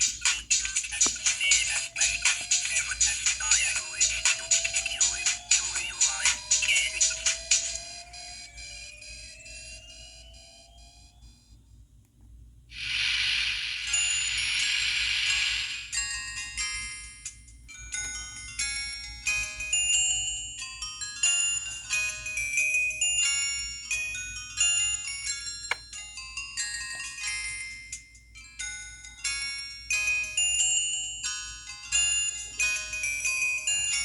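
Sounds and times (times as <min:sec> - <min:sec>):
phone ringtone melody: 0:00.0 - 0:11.6, 0:12.8 - 0:34.0.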